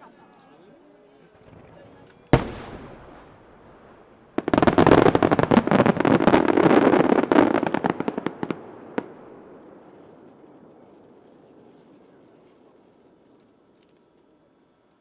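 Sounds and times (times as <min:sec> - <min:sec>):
fireworks crackling: 0:01.5 - 0:14.3.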